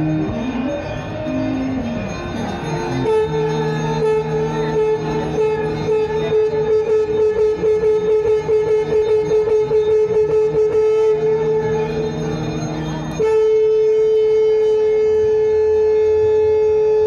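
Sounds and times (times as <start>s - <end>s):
conch shells blown: 0.0s - 17.0s.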